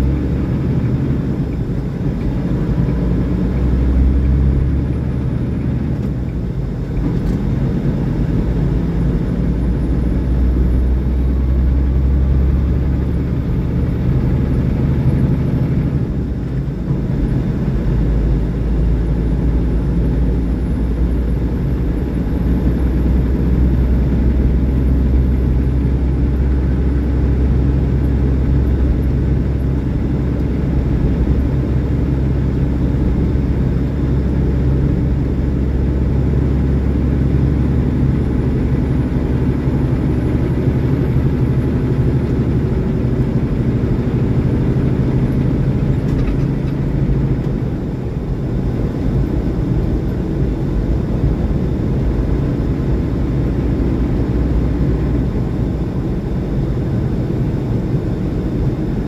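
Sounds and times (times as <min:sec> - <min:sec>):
road noise: 0:00.0 - 0:59.0
truck diesel engine cruising: 0:00.0 - 0:59.0.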